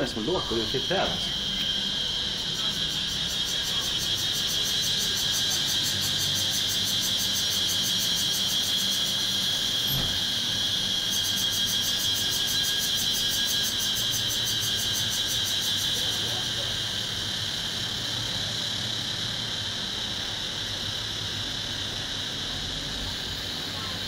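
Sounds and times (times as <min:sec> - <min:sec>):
cicadas shrilling: 0:00.0 - 0:24.0.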